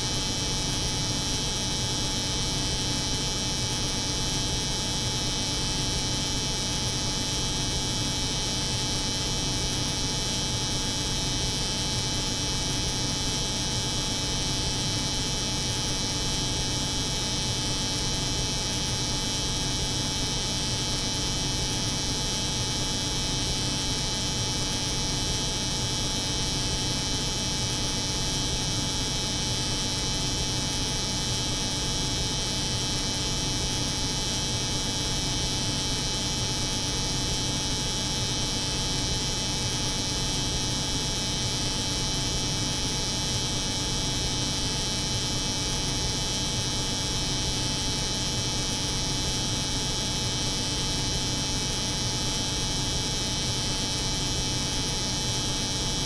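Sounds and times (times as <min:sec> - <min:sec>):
refrigeration unit drone: 0:00.0 - 0:56.0.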